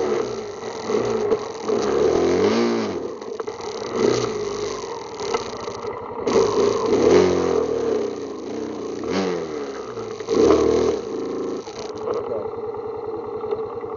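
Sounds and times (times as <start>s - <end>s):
atv engine revving: 0.0s - 13.9s.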